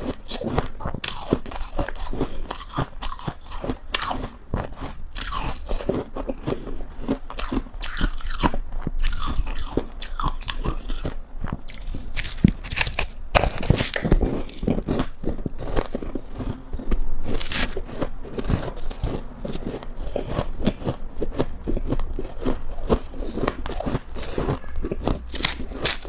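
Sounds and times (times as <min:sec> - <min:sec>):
crunching and chewing frost: 0:00.0 - 0:26.0.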